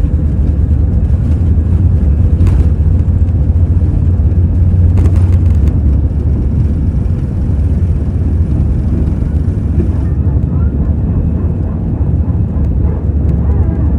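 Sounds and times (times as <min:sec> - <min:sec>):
jet engines deep rumble: 0:00.0 - 0:13.9.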